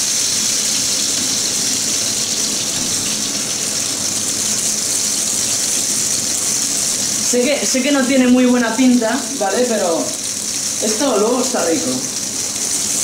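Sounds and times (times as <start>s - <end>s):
cutlets frying in hot oil: 0.0s - 13.0s.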